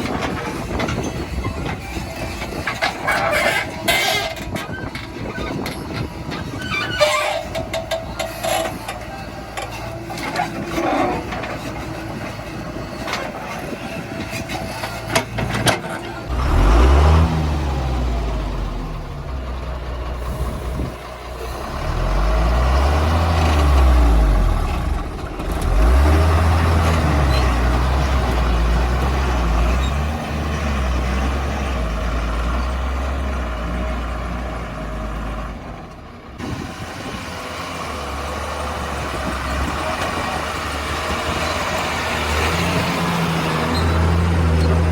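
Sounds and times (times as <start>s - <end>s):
diesel engine revving: 5.3s - 44.9s.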